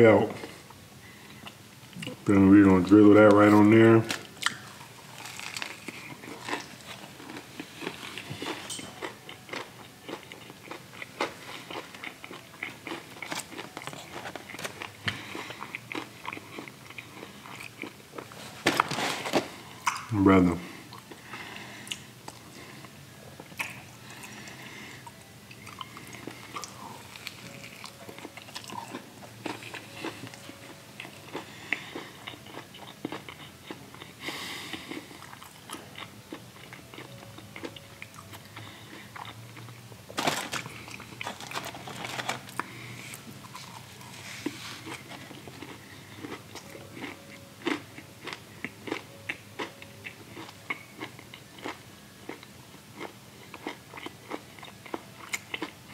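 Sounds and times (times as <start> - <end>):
chewing and crunching sandwich: 3.2 - 55.9.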